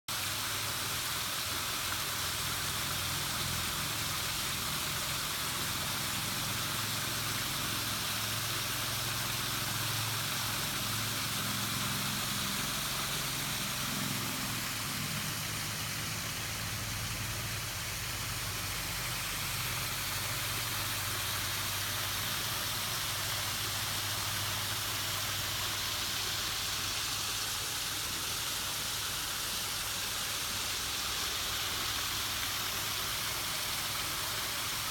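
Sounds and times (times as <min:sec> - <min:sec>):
waterfall rushing hiss: 0:00.1 - 0:34.9.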